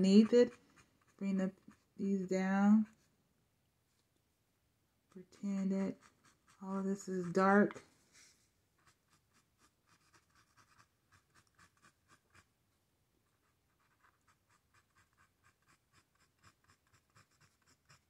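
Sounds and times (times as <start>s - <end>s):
marker scratching on canvas: 0.0s - 3.1s, 5.2s - 12.5s, 13.3s - 18.0s.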